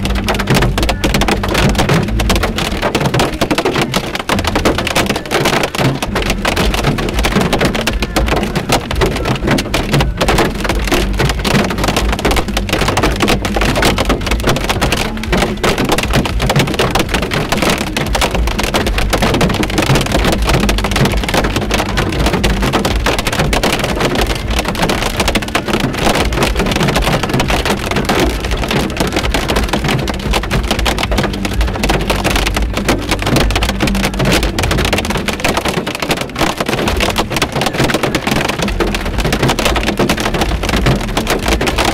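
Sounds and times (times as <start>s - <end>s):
hail and rain on car roof: 0.0s - 41.9s.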